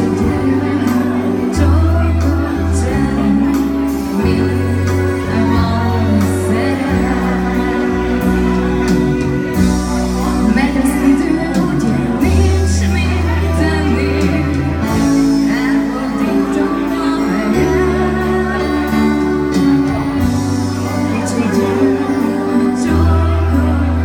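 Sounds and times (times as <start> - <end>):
electronic keyboard accompaniment: 0.0 - 24.0
low bass notes: 0.0 - 24.0
woman singing into microphone: 0.0 - 24.0.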